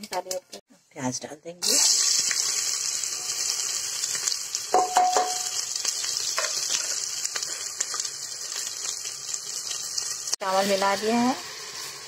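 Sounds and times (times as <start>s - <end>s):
onions sizzling in hot oil: 1.6s - 12.0s.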